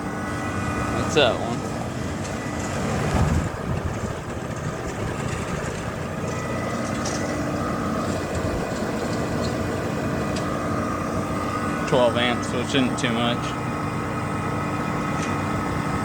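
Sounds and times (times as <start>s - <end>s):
air conditioner humming: 0.0s - 16.0s
fan and airflow noise: 0.0s - 16.0s.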